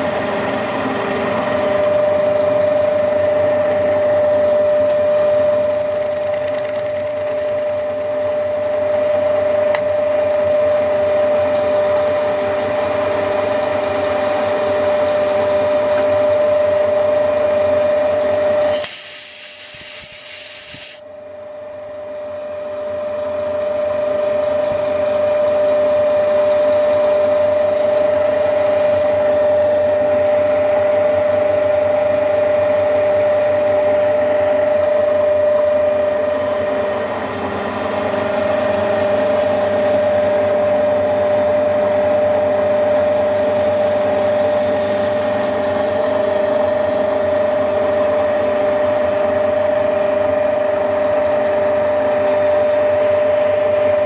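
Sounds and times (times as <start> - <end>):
milling machine whining: 0.0 - 21.0, 22.6 - 54.0.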